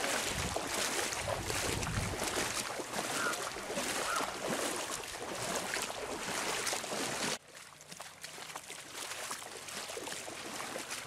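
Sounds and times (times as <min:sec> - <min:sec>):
feet wading through water: 0:00.0 - 0:11.0.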